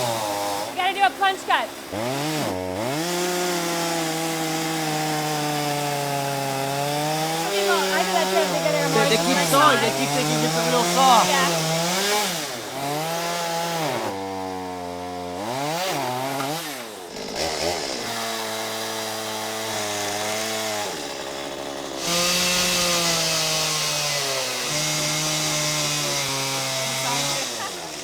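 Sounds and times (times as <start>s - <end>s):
chainsaw cutting into wood: 0.0s - 0.9s, 1.7s - 28.0s
chainsaw engine idling and revving: 0.0s - 28.0s.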